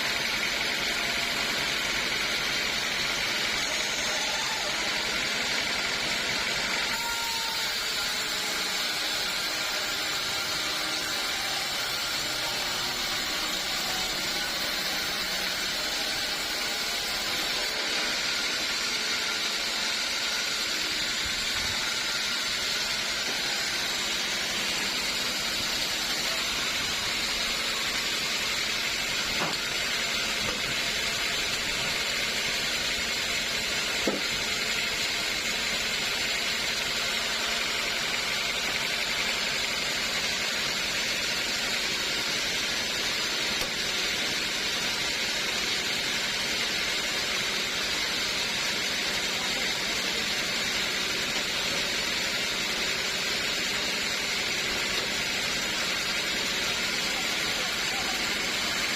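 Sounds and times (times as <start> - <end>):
sawmill saw running: 0.0 - 58.9.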